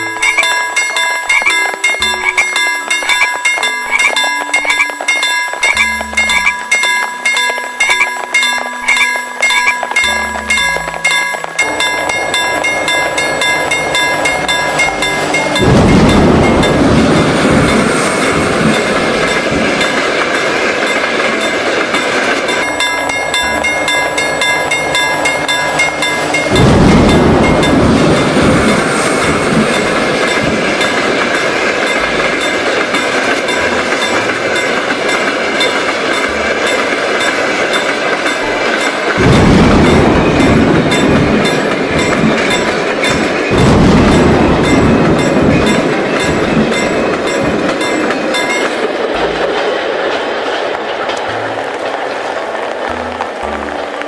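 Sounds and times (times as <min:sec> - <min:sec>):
rapid ringing clatter: 0:00.0 - 0:51.1
train wheels rumbling on rails: 0:00.0 - 0:54.0.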